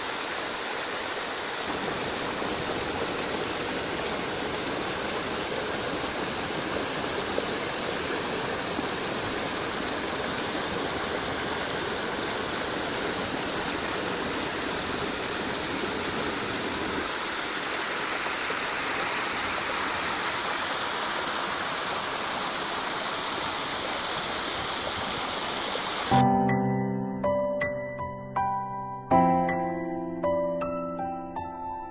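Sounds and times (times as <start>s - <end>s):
creek running over rocks: 0.0s - 26.2s.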